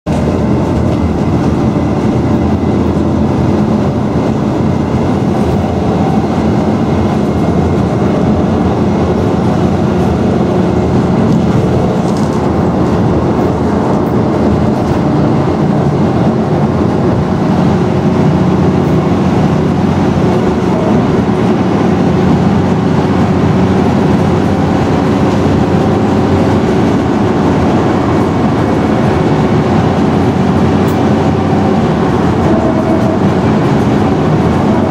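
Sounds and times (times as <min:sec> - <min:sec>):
bus engine humming: 0:00.0 - 0:34.9
road noise: 0:00.0 - 0:34.9.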